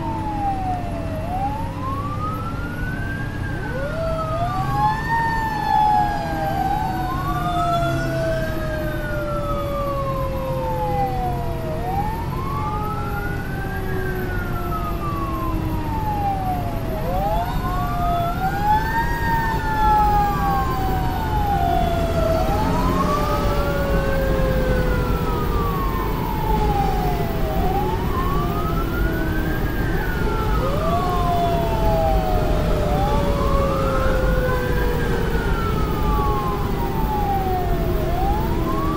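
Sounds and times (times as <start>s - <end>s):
engine low rumble: 0.0s - 38.9s
fire engine siren wailing: 0.0s - 38.9s
second siren tone winding down: 0.0s - 38.9s.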